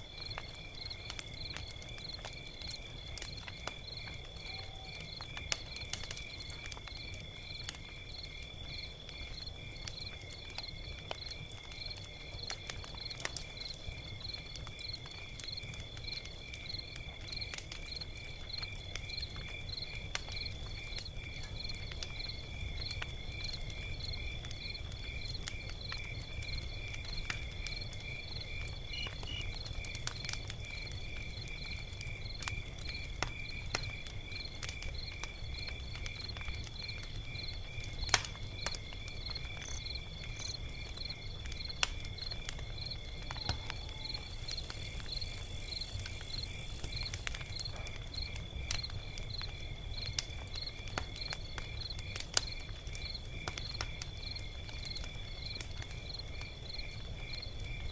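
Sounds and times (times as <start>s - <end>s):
log fire crackling and popping: 0.0s - 57.9s
crickets chirping: 0.1s - 57.9s.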